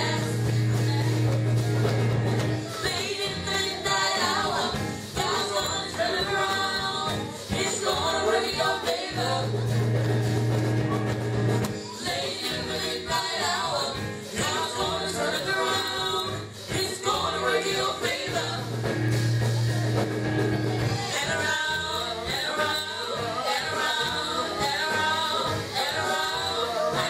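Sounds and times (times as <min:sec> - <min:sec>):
gospel voices singing over a band: 0:00.0 - 0:27.0.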